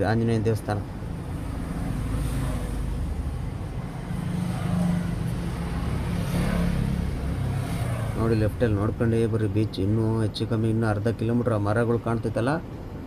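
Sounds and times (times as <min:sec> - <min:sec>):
tyre and road noise: 0:00.0 - 0:10.9.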